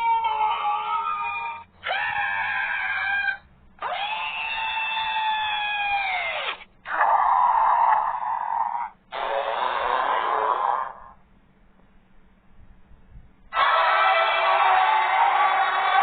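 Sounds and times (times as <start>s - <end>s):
shrill screeching monster roars: 0.0s - 11.2s, 13.5s - 16.0s.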